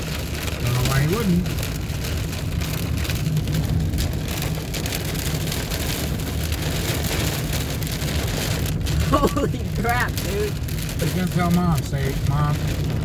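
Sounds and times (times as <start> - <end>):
heavy rain on car roof: 0.0 - 13.0
moving car rumble: 0.0 - 13.0.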